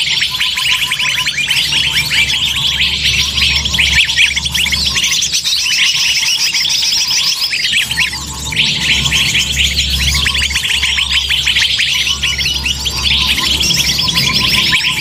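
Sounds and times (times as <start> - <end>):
steady low hum: 0.0 - 6.2, 7.3 - 15.0
small birds chirping and twittering: 0.0 - 15.0.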